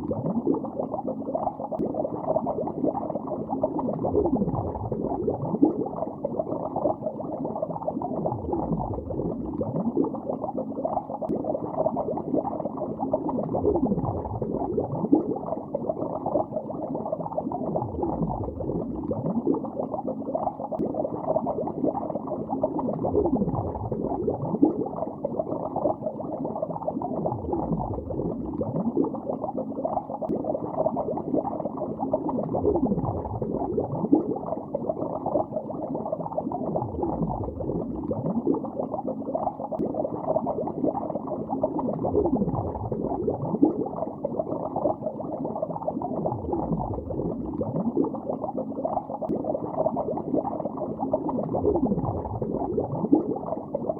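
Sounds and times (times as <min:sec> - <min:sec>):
muffled underwater bubbling: 0:00.0 - 0:53.9.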